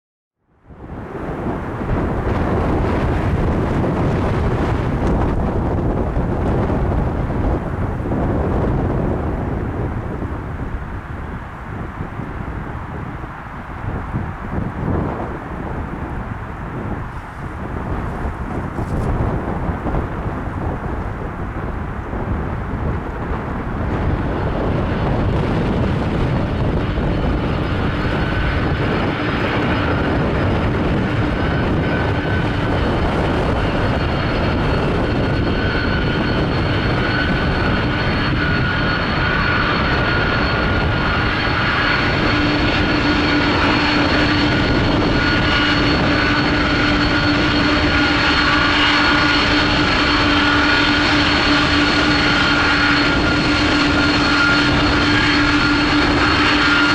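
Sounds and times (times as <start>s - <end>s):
jet engines rumbling and whining: 0.5s - 56.9s
low hum: 0.8s - 56.9s.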